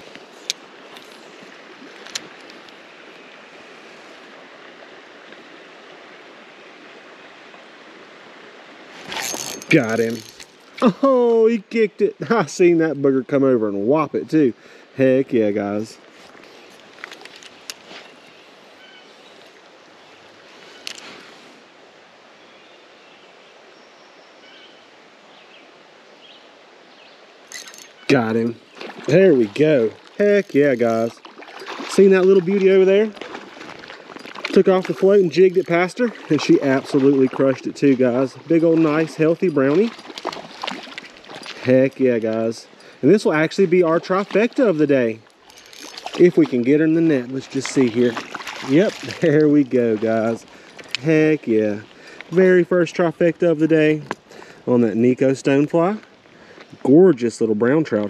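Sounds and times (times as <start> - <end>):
creek flowing over rocks: 0.0 - 23.0, 24.9 - 58.0.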